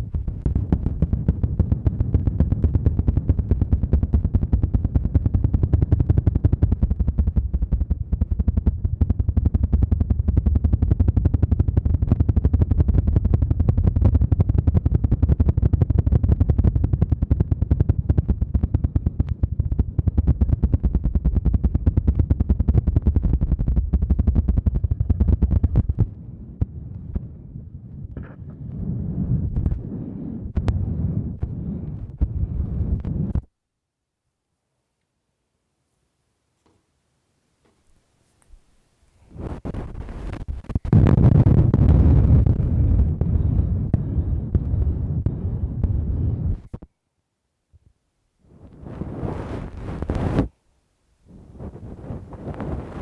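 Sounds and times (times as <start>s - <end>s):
rapid patting on microphone: 0.0s - 33.5s, 37.6s - 46.9s, 48.5s - 50.6s, 51.3s - 53.0s.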